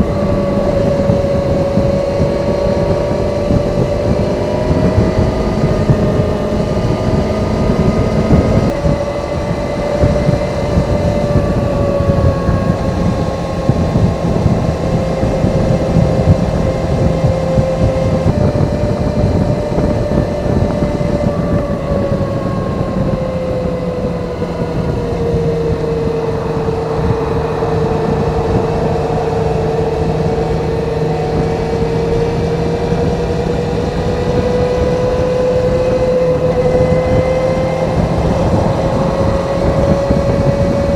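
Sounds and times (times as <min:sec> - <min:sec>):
motorcycle exhaust cruising: 0:00.0 - 0:40.9
road noise: 0:00.0 - 0:40.9
wind noise: 0:00.0 - 0:40.9.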